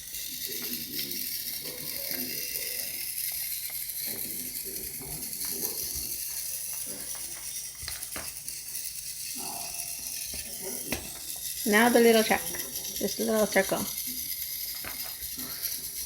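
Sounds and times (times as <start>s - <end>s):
toy motor whirring: 0.0s - 16.0s.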